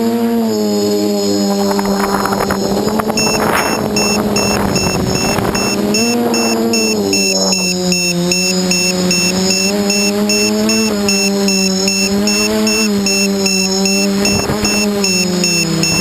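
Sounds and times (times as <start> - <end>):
quadcopter motors humming: 0.0 - 16.0.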